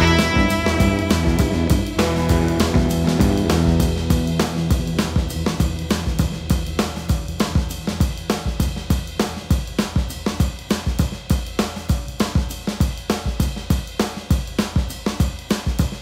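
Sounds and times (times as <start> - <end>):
music with drum beat and bass: 0.0 - 16.0.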